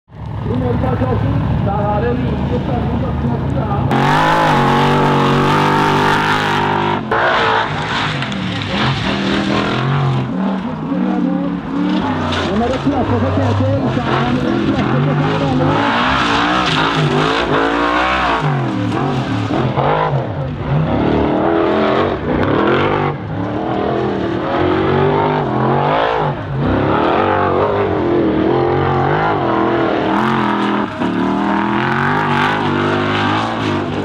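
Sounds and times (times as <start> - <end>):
buggy engine revving: 0.1 - 34.0.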